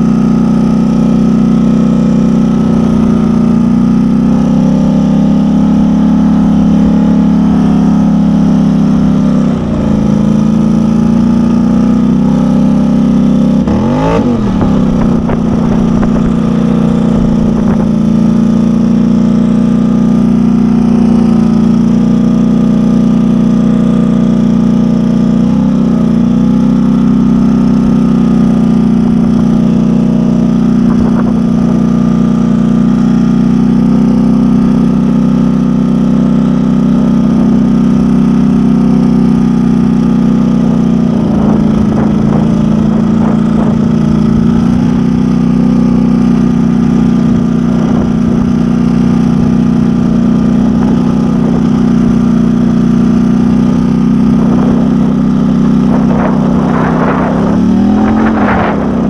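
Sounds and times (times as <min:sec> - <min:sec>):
loud atv engine running: 0:00.0 - 0:59.0.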